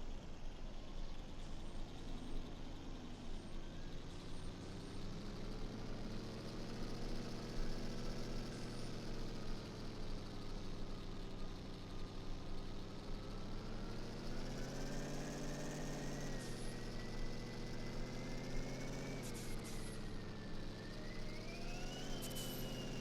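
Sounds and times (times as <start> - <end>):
truck engine running: 3.4 - 23.0.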